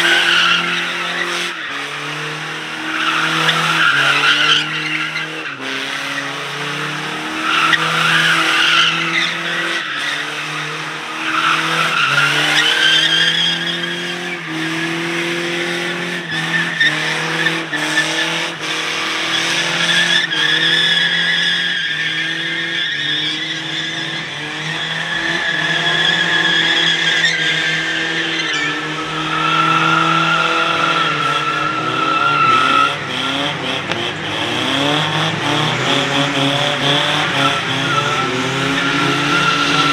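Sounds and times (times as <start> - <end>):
tires squealing: 0.0 - 39.9.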